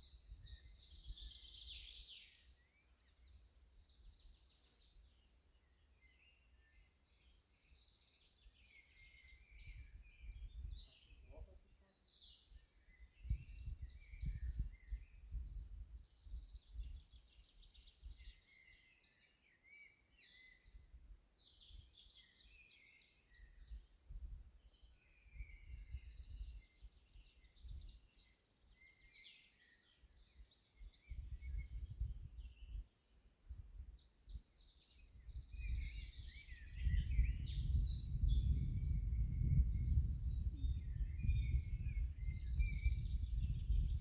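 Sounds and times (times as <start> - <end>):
songbirds singing: 0.0 - 44.0.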